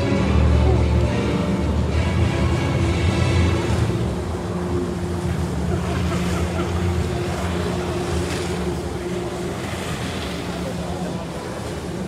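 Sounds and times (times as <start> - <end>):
jet ski engine running: 0.0 - 12.0
water jets spraying: 0.0 - 12.0.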